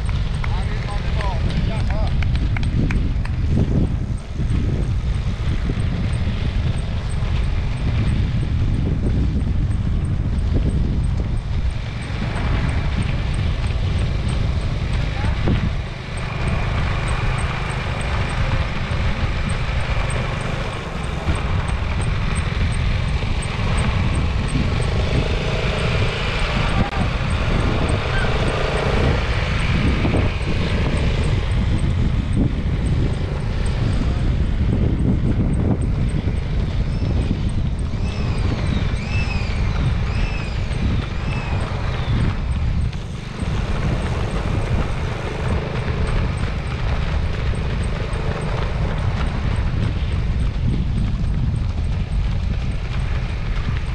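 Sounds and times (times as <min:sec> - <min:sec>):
faint high ticking: 0:00.0 - 0:53.9
vehicle rumbling: 0:00.0 - 0:53.9
wind noise on microphone: 0:00.0 - 0:53.9.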